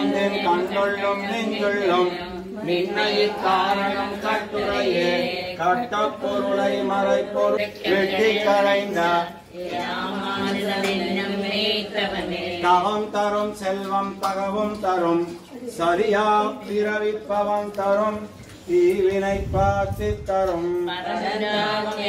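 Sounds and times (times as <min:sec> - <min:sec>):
men chanting mantras: 0:00.0 - 0:22.0.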